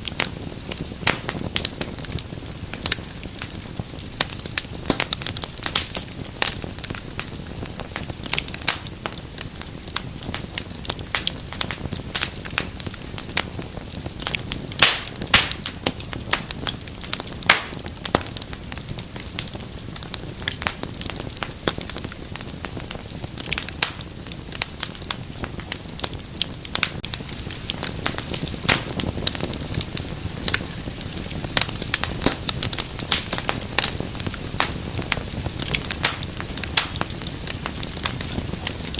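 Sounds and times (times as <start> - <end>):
soft hiss of fire: 0.0 - 38.9
wood fire crackling: 0.0 - 38.9.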